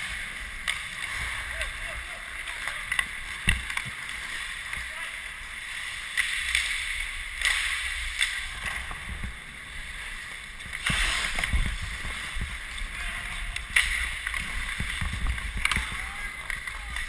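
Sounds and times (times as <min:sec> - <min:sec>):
skates scraping across ice: 0:00.0 - 0:17.0.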